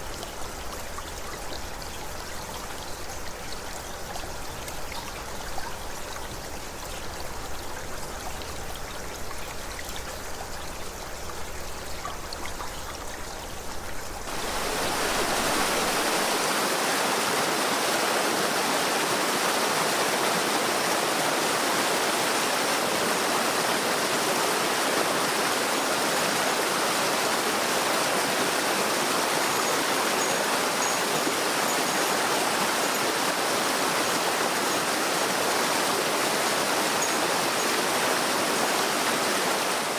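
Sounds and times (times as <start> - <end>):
rushing water: 0.0 - 39.9
stream babbling over stones: 0.0 - 39.9.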